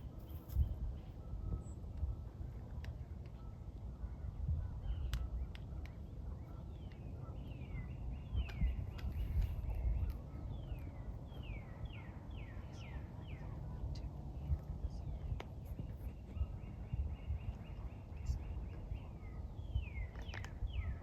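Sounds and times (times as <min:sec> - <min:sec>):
low rumble of outdoor noise: 0:00.0 - 0:21.0
bird chirping: 0:03.0 - 0:21.0.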